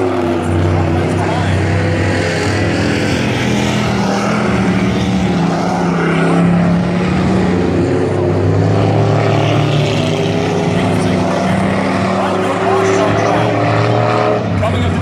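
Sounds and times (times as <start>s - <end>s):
race truck engines droning: 0.0s - 15.0s.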